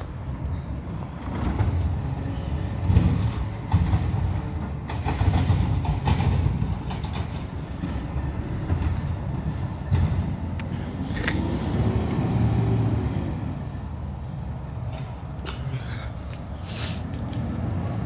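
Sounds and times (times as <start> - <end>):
garbage truck engine rumbling: 0.0 - 18.0.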